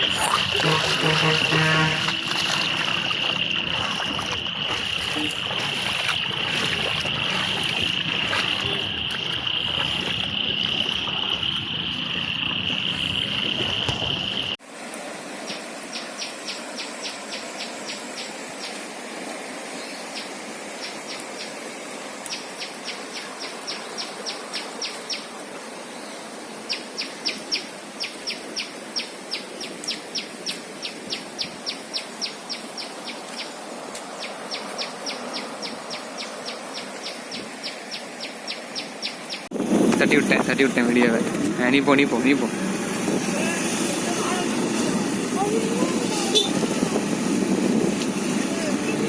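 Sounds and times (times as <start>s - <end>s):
river rushing: 0.0s - 12.3s, 13.3s - 49.0s.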